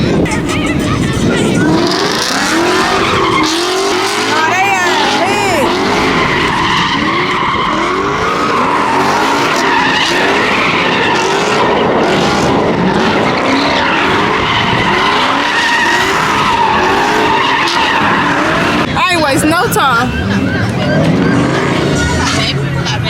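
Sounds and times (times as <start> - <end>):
car engine: 0.0 - 23.0
tyres squealing: 0.3 - 22.6.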